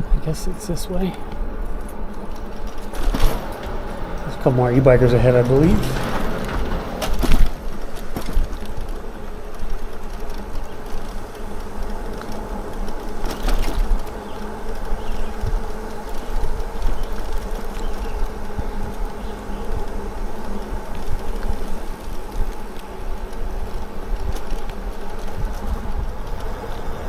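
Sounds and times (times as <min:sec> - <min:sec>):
rumble of wind and tyres: 0:00.0 - 0:27.0.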